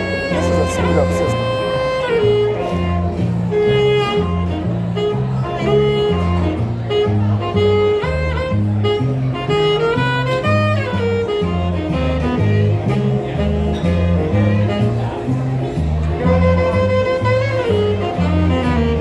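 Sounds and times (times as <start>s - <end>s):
jazz bass line: 0.0s - 19.0s
sliding melody line: 0.0s - 19.0s.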